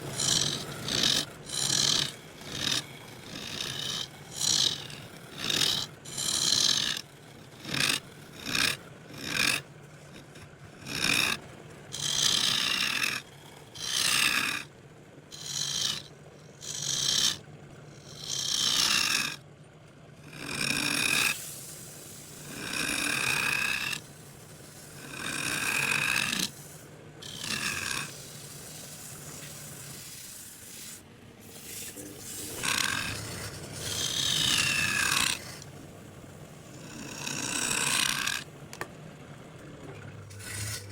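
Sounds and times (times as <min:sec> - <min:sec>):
rasping strokes on wood: 0:00.0 - 0:14.7, 0:15.4 - 0:19.4, 0:20.3 - 0:35.9, 0:36.7 - 0:38.5, 0:40.2 - 0:40.9.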